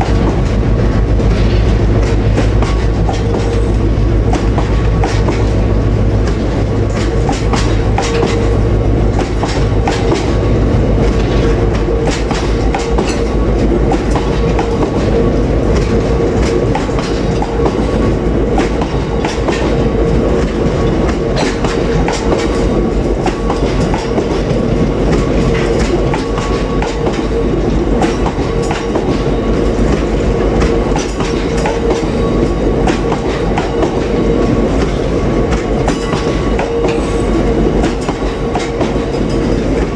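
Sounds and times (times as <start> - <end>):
train rumble and hum: 0.0 - 39.9.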